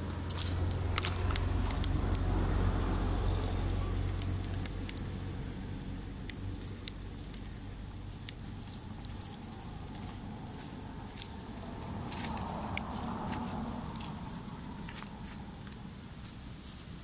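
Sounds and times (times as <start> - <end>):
dry leaves crackling: 0.0 - 17.0.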